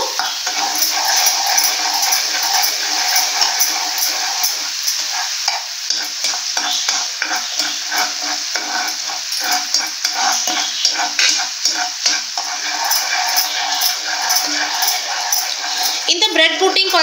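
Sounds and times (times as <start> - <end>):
metal spoon scraping a pan: 0.0 - 17.0
syrup bubbling and sizzling: 0.0 - 17.0.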